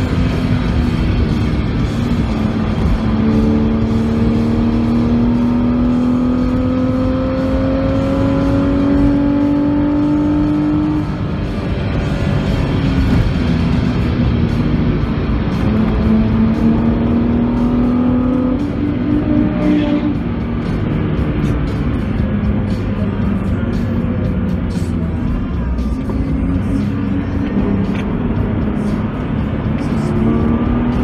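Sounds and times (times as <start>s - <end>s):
car engine revving up: 0.0s - 31.0s
wind and road noise: 0.0s - 31.0s.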